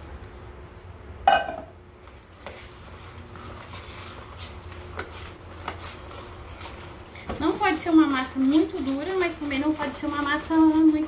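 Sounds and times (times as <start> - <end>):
dough mixed by hand wet slaps: 2.0 - 11.0.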